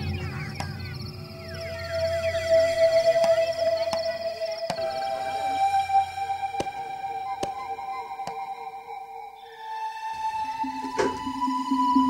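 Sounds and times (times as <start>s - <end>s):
ambient music sustained tones: 0.0s - 12.0s.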